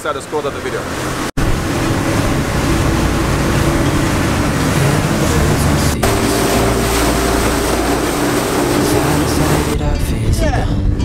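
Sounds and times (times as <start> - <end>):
motorboat engine drone: 0.0 - 9.8
wind and spray rushing: 0.9 - 9.8.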